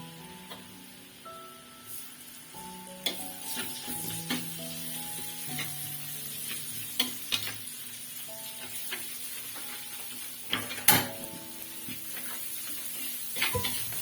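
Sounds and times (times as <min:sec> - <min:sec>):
faint background music: 0:00.0 - 0:14.0
food sizzling in oil: 0:00.0 - 0:14.0.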